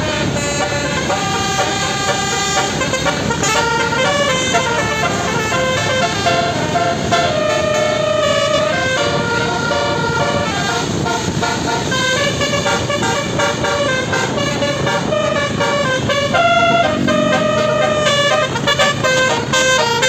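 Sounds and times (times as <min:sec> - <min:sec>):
bus air horn playing a tune: 0:00.0 - 0:20.0.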